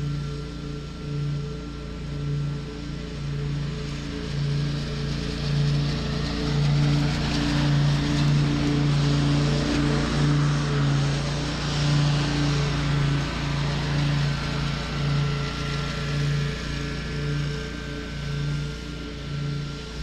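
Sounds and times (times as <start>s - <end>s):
riding lawn mower running: 0.0s - 20.0s.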